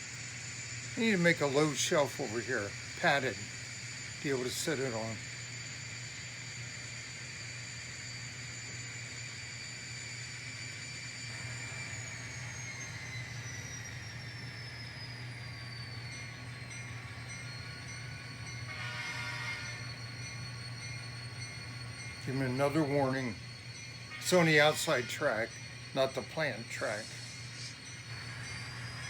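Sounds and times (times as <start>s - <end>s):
model train motor whine: 0.0s - 29.0s.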